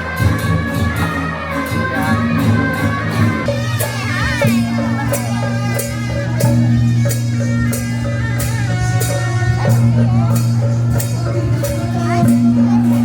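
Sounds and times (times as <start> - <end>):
steady drum beat: 0.0 - 13.0
sustained bass: 0.0 - 13.0.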